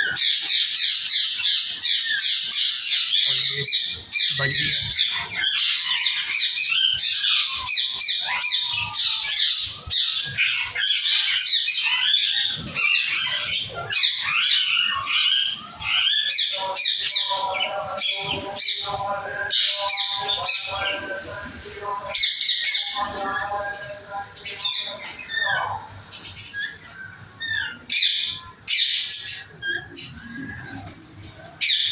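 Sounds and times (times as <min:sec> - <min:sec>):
budgerigars chirping: 0:00.0 - 0:31.9.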